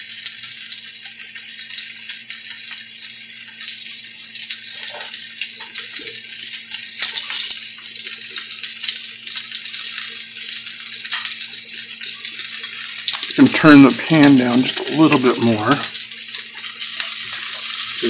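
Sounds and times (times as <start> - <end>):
meatballs sizzling in oil: 0.0 - 18.0.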